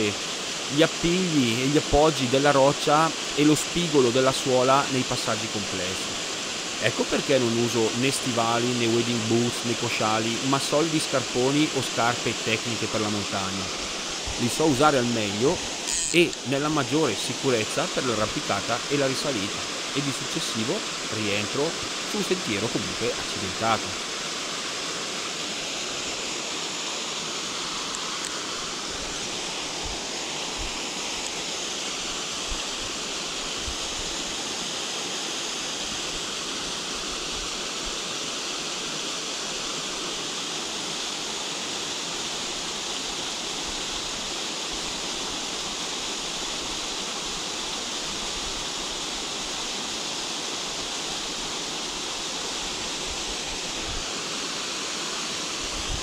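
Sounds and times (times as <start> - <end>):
waterfall rushing into a pool: 0.0 - 56.0.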